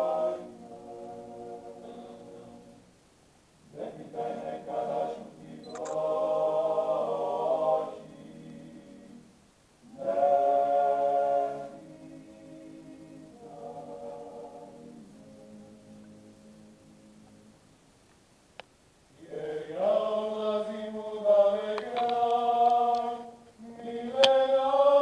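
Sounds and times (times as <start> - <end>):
male group singing a cappella: 0.0 - 2.8, 3.7 - 9.3, 9.9 - 16.2, 19.2 - 25.0.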